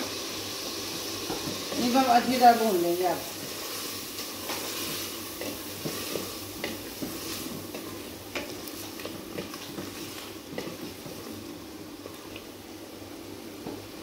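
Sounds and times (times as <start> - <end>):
meat sizzling in a pot: 0.0 - 14.0.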